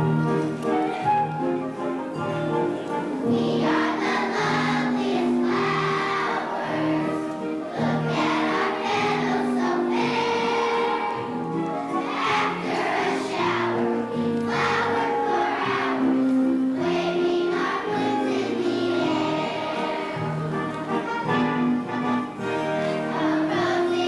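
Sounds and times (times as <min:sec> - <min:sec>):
children's choir singing: 0:00.0 - 0:24.0
instrumental accompaniment: 0:00.0 - 0:24.0.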